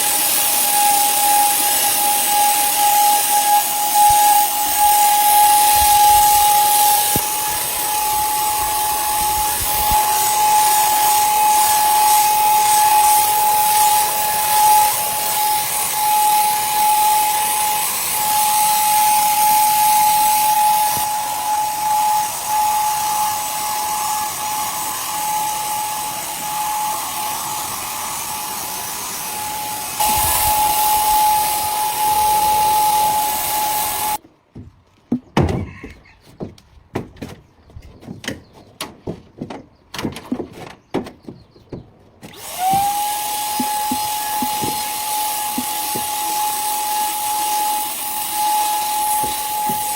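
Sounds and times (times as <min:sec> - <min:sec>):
power tool motor whine: 0:00.0 - 0:34.2, 0:42.2 - 0:49.9.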